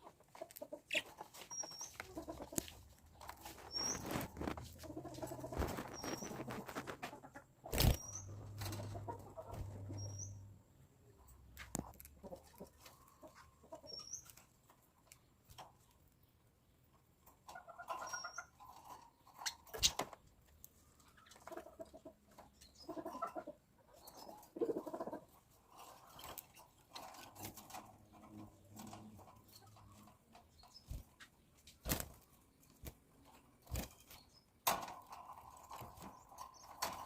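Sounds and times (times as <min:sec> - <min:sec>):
pet birds chirping and chattering: 0:00.0 - 0:37.0.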